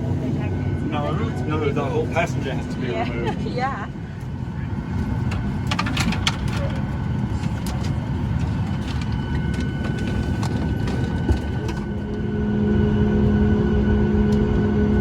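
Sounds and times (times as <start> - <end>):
droning background music chord: 0.0 - 7.2, 8.8 - 15.0
low rumbling noise: 0.0 - 15.0.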